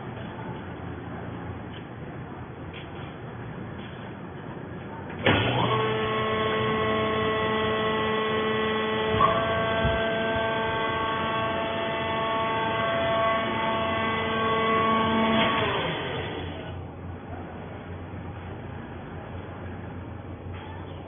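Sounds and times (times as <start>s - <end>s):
motor and pump whining hum: 0.0s - 21.0s.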